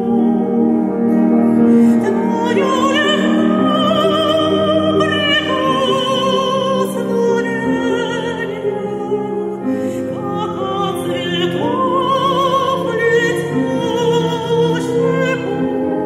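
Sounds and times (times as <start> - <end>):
piano accompaniment: 0.0 - 16.0
woman singing classical song: 0.0 - 16.0.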